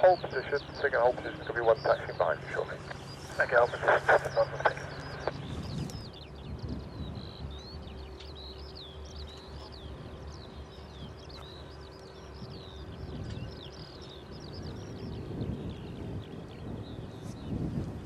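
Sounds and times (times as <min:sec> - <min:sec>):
faint steady hum: 0:00.0 - 0:18.0
low steady rumble: 0:00.0 - 0:18.0
songbird chirping and trilling: 0:00.0 - 0:18.0.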